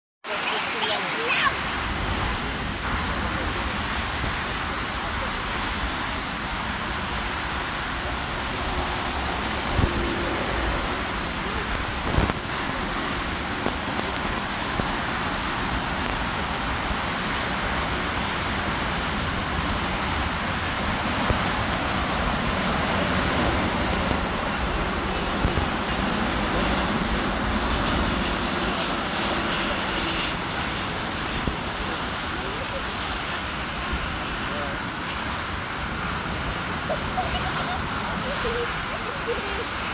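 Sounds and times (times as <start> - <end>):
jet airliner rumble: 0.3 - 39.9.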